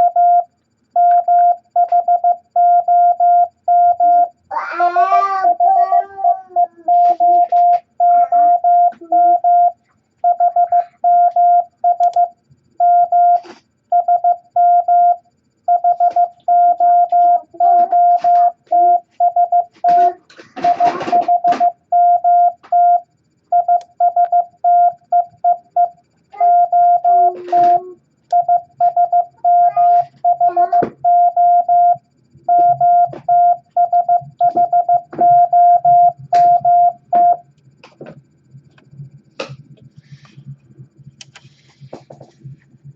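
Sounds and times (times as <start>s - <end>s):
morse code beeps: 0.0s - 4.4s, 5.5s - 37.4s
low hum: 0.0s - 42.9s.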